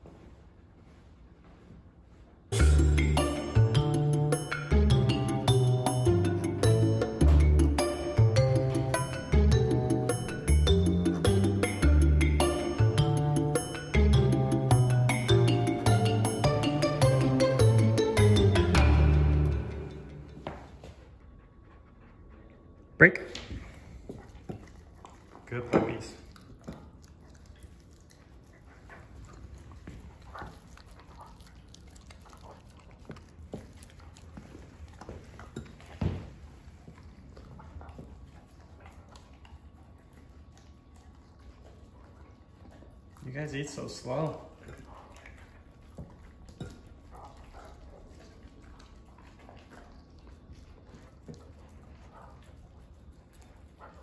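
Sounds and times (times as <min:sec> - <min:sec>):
dogs chewing and licking: 0:02.6 - 0:54.0.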